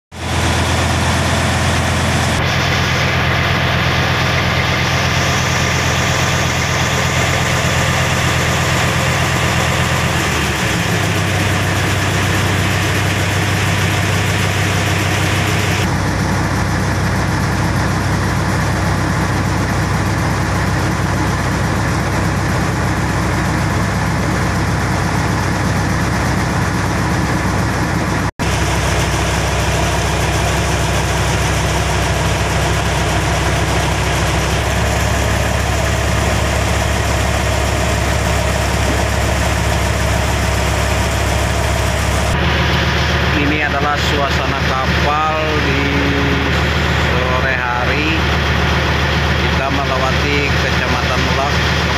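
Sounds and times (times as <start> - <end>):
diesel boat engine droning: 0.1 - 51.9.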